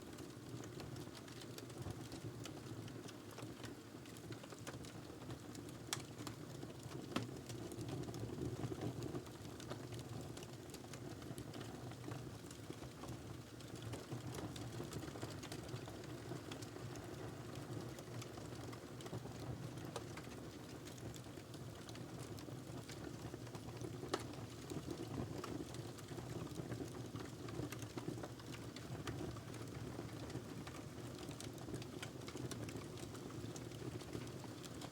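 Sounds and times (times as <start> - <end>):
fire crackling and popping: 3.3 - 8.2, 9.6 - 34.8.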